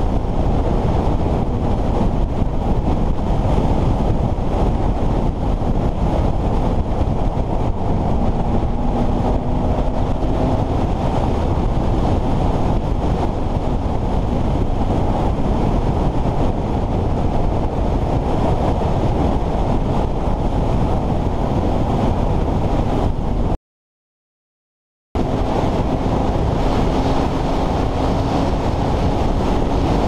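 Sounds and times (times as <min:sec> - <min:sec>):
wind rushing over microphone: 0:00.0 - 0:23.6, 0:25.2 - 0:30.0.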